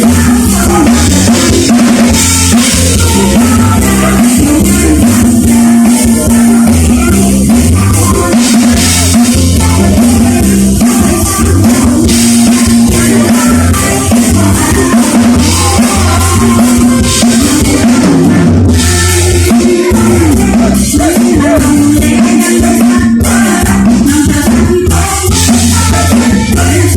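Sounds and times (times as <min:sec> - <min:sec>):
bass drum beat: 0:00.0 - 0:26.9
loud band music with drum kit: 0:00.0 - 0:26.9
repeating bass line: 0:00.0 - 0:26.9.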